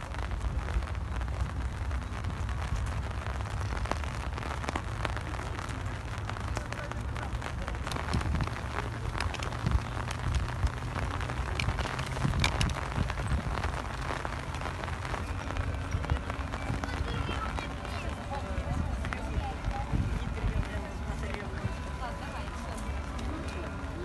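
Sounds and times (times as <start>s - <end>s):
rain hissing: 0.0s - 24.0s
raindrop ticks: 0.0s - 24.0s.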